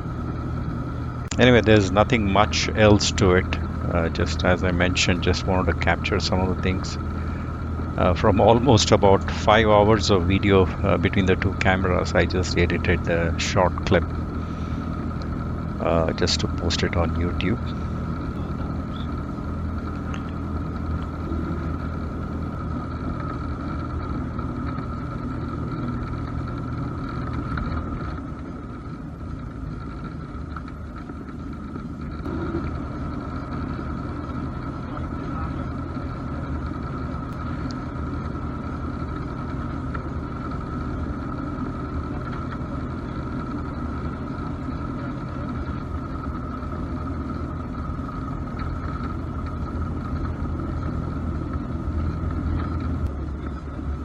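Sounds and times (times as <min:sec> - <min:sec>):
propeller plane engine from cabin: 0:00.0 - 0:54.0.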